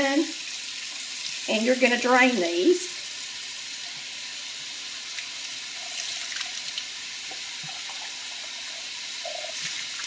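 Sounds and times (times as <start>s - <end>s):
faucet running water: 0.0s - 10.0s.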